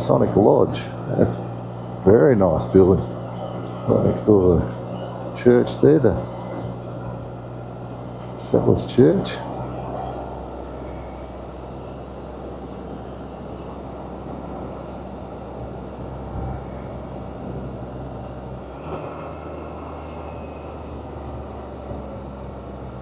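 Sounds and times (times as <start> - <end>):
motorcycle engine hum: 0.0 - 23.0.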